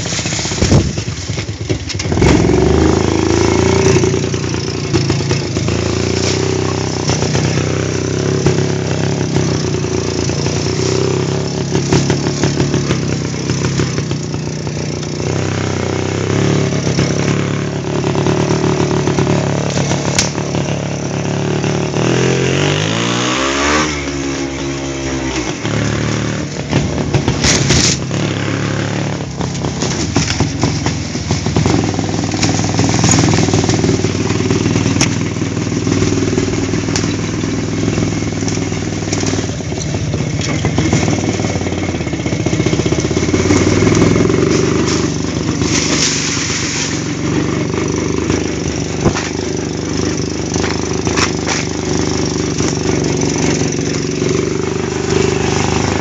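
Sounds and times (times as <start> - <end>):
sharp knocks and clatters: 0.0 - 15.4, 25.2 - 56.0
two-stroke motorcycle engine: 0.0 - 56.0.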